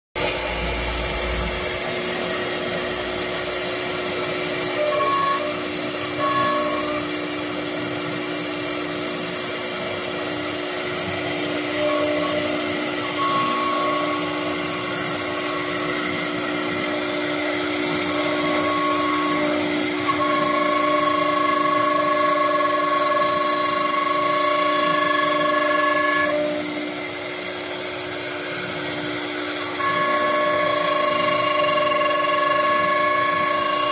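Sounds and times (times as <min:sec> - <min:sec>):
spindle whine: 0:00.2 - 0:27.3, 0:28.0 - 0:33.9
machine hum and hiss: 0:00.2 - 0:33.9.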